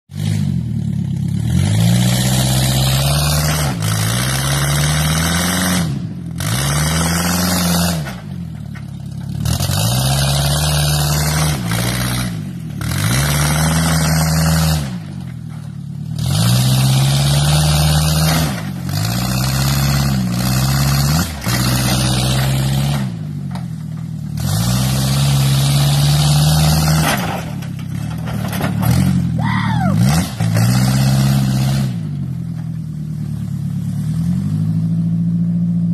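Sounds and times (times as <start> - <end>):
car engine revving: 0.1 - 8.3, 9.2 - 23.6, 24.3 - 35.9.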